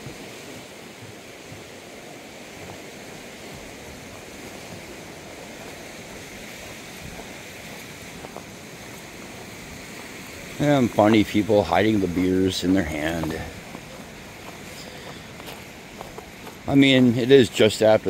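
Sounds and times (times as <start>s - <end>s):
river and waterfall rushing: 0.0s - 18.0s.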